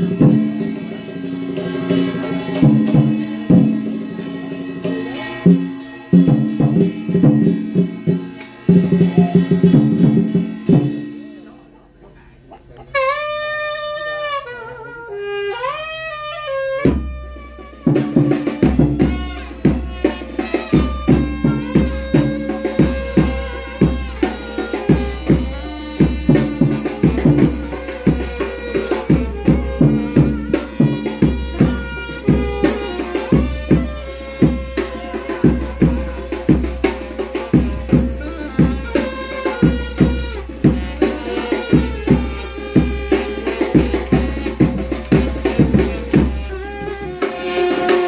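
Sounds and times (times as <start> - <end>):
steady drum beat: 0.0 - 14.6, 15.4 - 48.0
wind instrument melody: 0.0 - 48.0.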